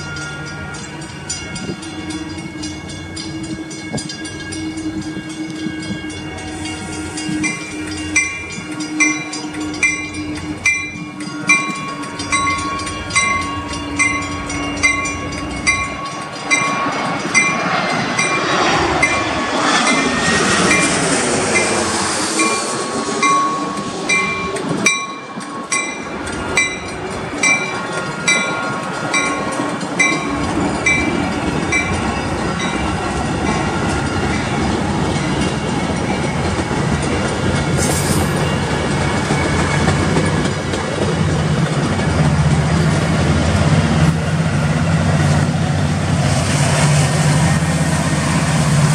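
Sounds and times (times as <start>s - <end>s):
crossing bell ringing: 0.0s - 46.0s
train wheels clattering: 0.0s - 48.9s.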